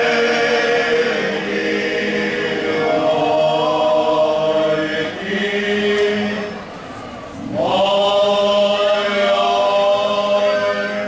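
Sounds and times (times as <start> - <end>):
men singing unaccompanied: 0.0 - 6.6, 7.4 - 11.0.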